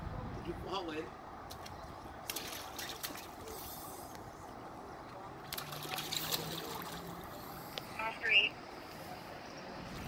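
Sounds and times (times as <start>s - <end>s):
faint street background noise: 0.0s - 10.0s.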